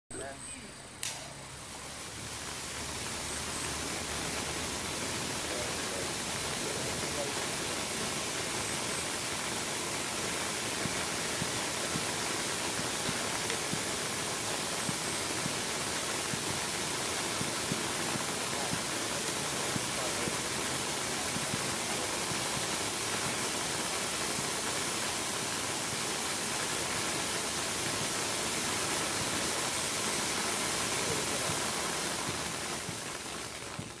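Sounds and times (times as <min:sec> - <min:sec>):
firework sparks hissing: 0:00.1 - 0:34.0.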